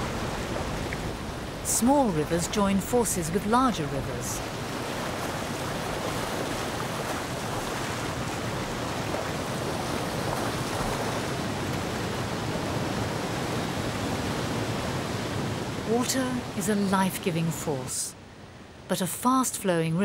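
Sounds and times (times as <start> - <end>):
river rushing through rapids: 0.0 - 17.7.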